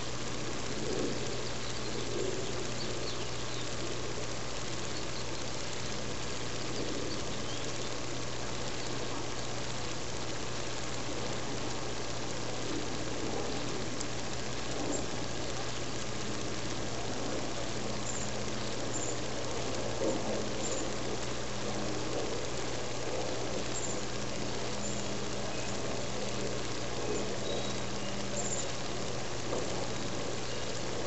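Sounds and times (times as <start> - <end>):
constant hiss: 0.0 - 31.0
low machine hum: 0.0 - 31.0.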